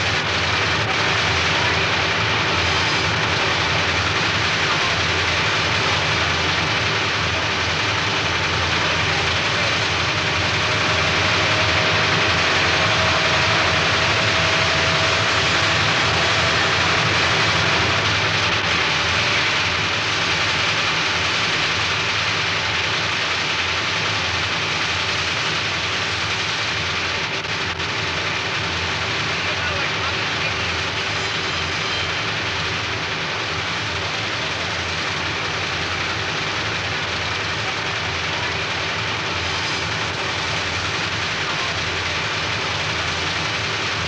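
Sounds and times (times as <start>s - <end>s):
lathe machinery humming: 0.0s - 44.0s.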